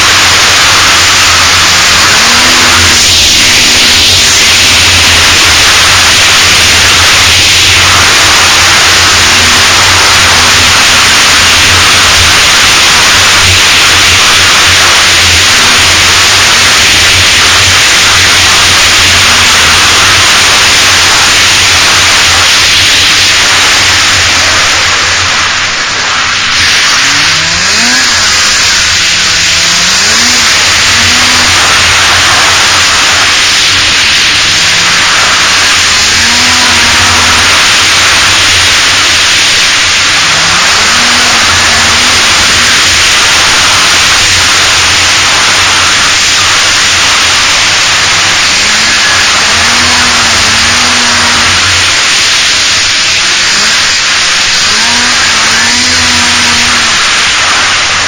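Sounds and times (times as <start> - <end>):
loud steady rush of noise: 0.0 - 58.0
snowmobile engine revving: 0.0 - 58.0.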